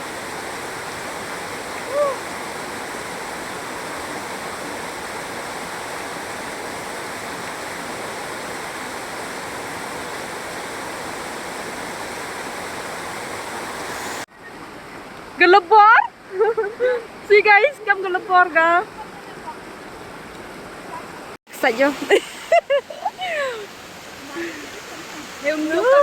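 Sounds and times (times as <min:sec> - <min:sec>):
waterfall roar: 0:00.0 - 0:14.8, 0:17.2 - 0:26.0.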